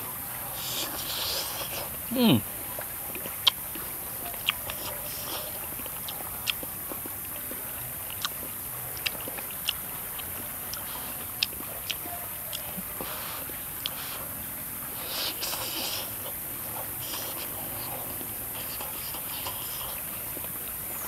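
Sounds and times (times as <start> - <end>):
person chewing food: 0.4 - 21.0.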